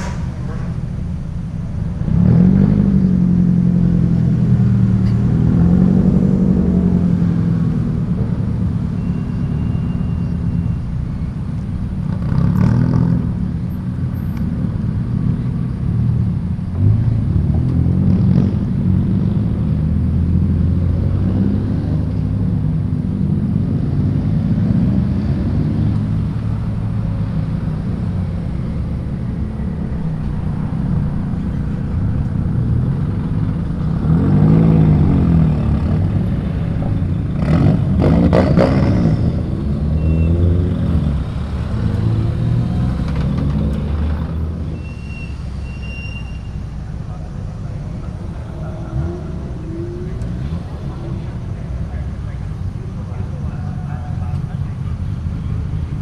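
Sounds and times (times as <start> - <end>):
car engines moving off: 0.0 - 56.0.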